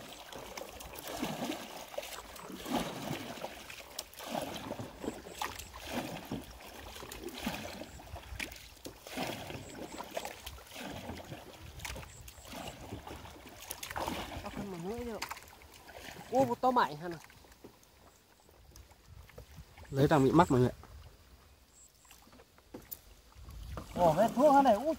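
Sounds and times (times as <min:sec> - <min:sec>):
faint water lapping: 0:00.0 - 0:24.9
water splashing and sloshing: 0:00.0 - 0:24.9.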